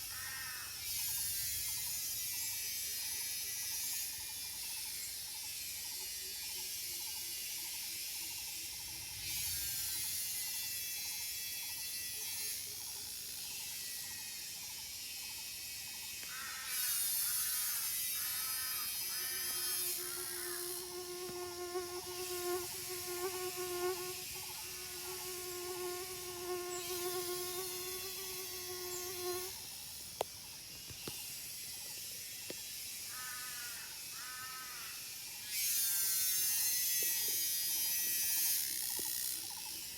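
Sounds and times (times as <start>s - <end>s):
cicadas and insects buzzing: 0.0s - 39.9s.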